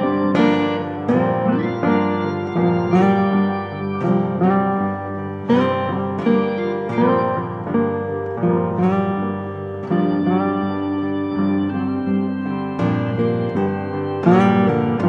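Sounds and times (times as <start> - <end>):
keyboard notes: 0.0 - 15.0
plucked guitar: 0.0 - 15.0.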